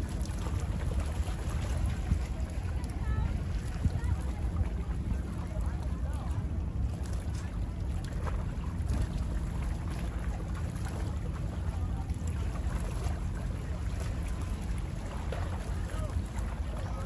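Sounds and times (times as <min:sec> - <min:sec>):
steady low rumble: 0:00.0 - 0:17.0
waves lapping and splashing: 0:00.0 - 0:17.0.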